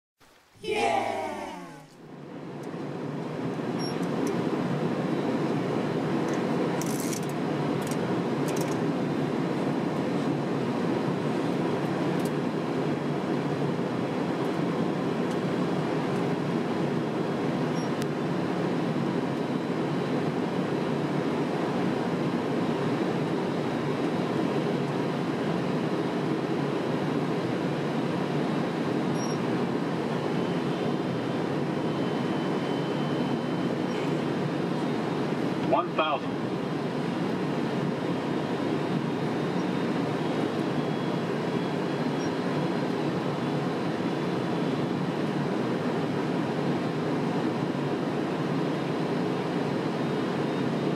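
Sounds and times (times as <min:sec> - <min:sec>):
airflow and jet engines: 0:00.2 - 0:50.9.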